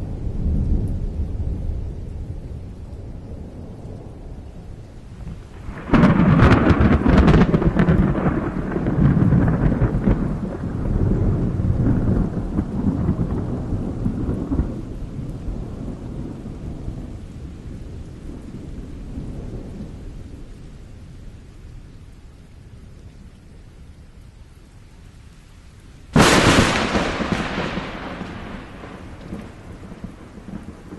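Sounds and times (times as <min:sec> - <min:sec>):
thunder crackles: 0:00.0 - 0:20.6, 0:26.1 - 0:30.9
thunder rumbling: 0:00.0 - 0:21.0, 0:26.1 - 0:30.9.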